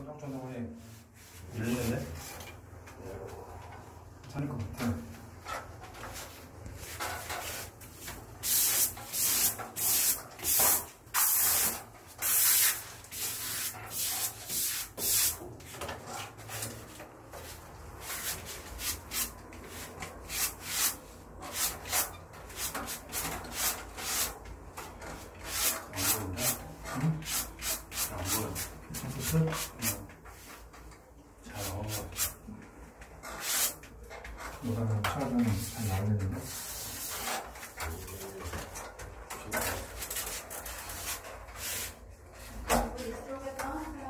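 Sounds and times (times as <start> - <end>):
wallpaper smoother scraping rubs: 0.7 - 4.0, 5.1 - 30.8, 31.5 - 32.6, 33.2 - 38.8, 39.6 - 44.0.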